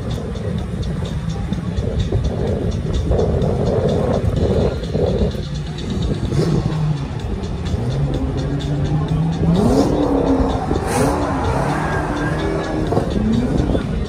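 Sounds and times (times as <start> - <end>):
car engine revving: 0.0 - 14.0
event music: 0.0 - 14.0.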